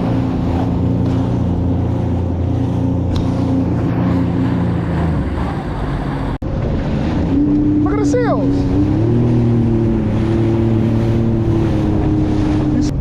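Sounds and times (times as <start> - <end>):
jet ski engine droning: 0.0 - 13.0
rushing wind and water: 0.0 - 13.0.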